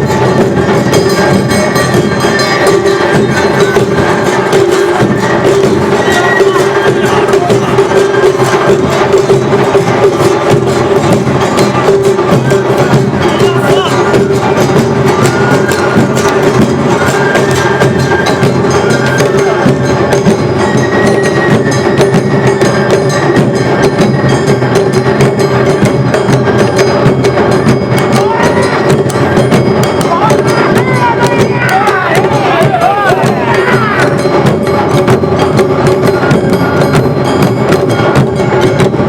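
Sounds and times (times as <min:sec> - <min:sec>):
drums and percussion beat: 0:00.0 - 0:39.0
high held melody: 0:00.0 - 0:39.0.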